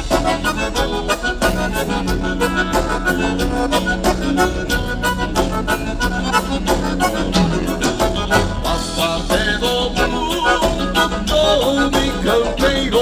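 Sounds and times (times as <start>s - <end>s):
accordion melody: 0.0s - 13.0s
bass: 0.0s - 13.0s
steady drum beat: 0.0s - 13.0s.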